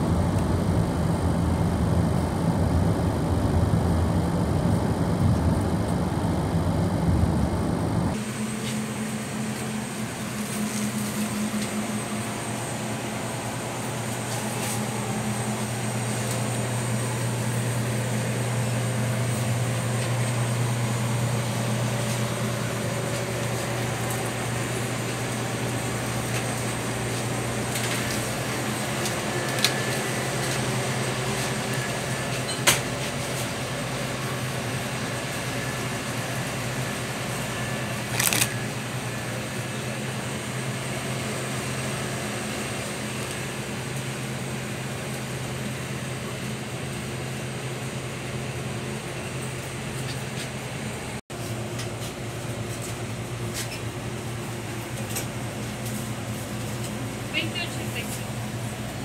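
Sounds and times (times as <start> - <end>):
cooling machinery hum: 0.0 - 59.0.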